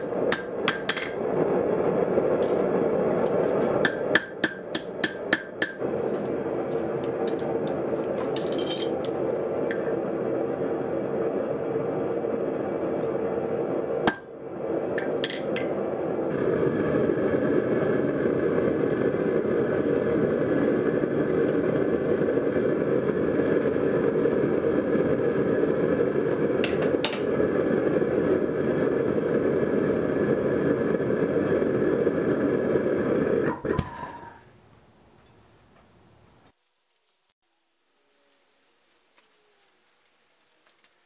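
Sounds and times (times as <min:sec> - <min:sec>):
propane burner roaring: 0:00.0 - 0:36.6.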